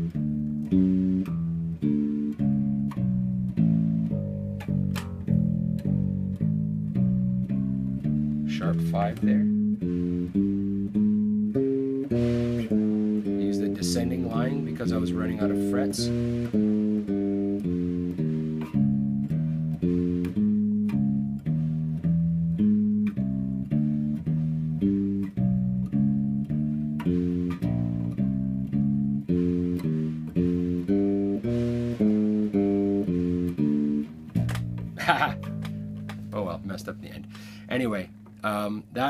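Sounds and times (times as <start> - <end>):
electric bass walking line: 0.0 - 39.0.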